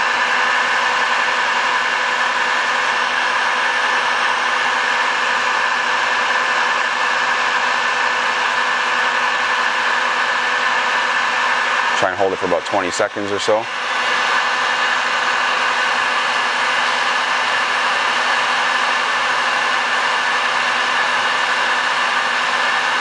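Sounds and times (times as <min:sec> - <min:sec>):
heat gun fan blowing: 0:00.0 - 0:23.0.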